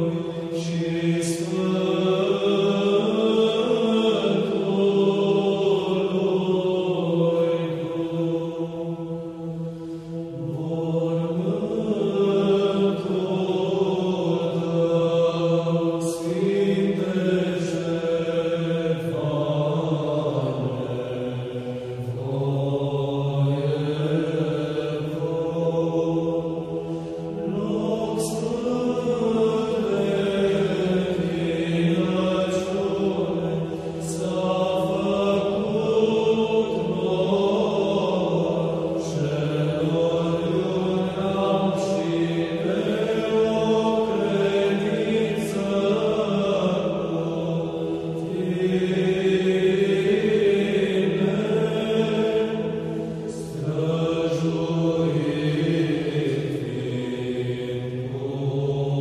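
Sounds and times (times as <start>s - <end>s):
low drone: 0.0s - 59.0s
voices chanting: 0.0s - 59.0s.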